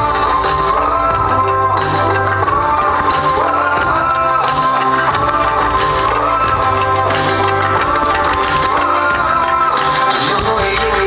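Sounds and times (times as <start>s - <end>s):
song with guitar: 0.0s - 11.0s.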